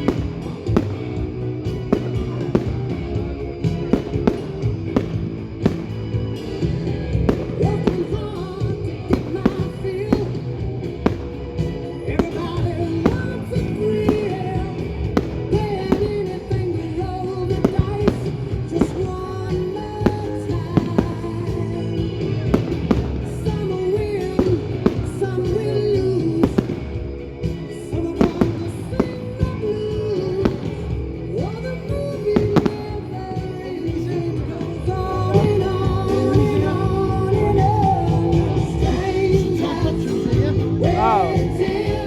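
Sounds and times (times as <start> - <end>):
fireworks bangs and crackles: 0.0 - 42.0
pop-rock music with singing: 0.0 - 42.0.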